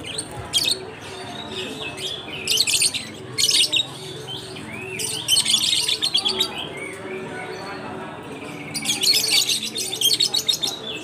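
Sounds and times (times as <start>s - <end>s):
lovebirds chattering and screeching: 0.0s - 11.0s.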